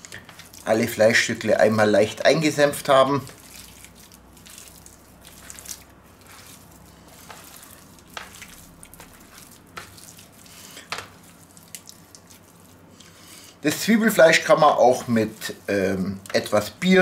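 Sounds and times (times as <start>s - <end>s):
wet squishing of meat: 0.0s - 17.0s.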